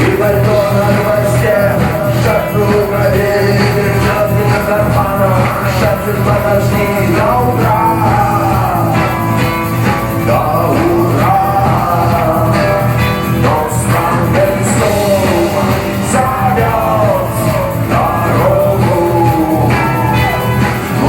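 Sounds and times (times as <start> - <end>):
rock song with lead vocal: 0.0 - 21.0.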